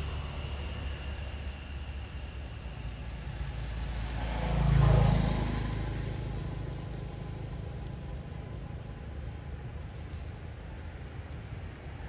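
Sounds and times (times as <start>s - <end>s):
vehicle passing by: 0.0s - 10.0s
low traffic rumble: 0.0s - 12.0s.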